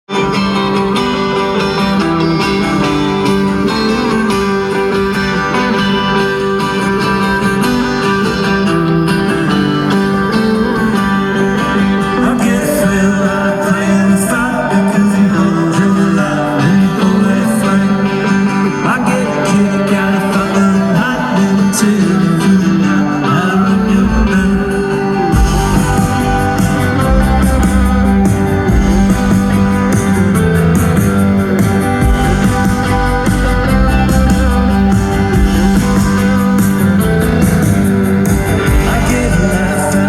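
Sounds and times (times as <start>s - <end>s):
live band guitars: 0.0s - 40.0s
person singing: 0.1s - 40.0s.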